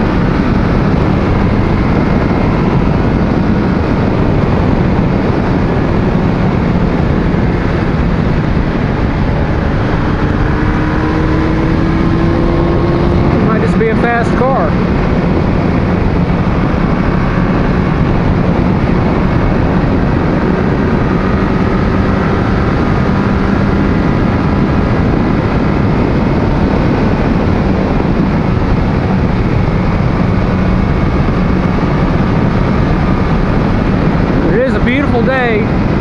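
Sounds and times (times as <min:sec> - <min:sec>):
motorcycle engine cruising: 0:00.0 - 0:36.0
wind and road noise: 0:00.0 - 0:36.0.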